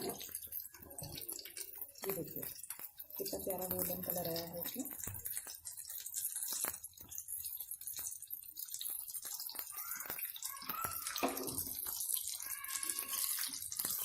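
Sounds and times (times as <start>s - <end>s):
hot oil sizzling in a frying pan: 0.0s - 14.0s
oil crackling and popping: 0.0s - 14.0s.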